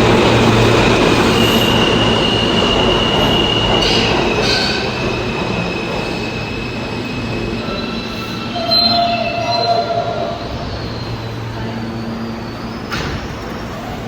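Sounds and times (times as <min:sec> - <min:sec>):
subway train rumble: 0:00.0 - 0:14.0
train wheels squealing: 0:00.5 - 0:14.0.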